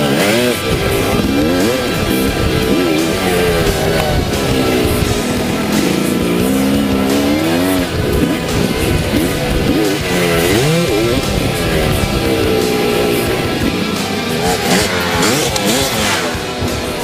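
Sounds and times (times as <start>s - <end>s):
dirt bike engine revving: 0.0s - 17.0s
rock song: 0.0s - 17.0s.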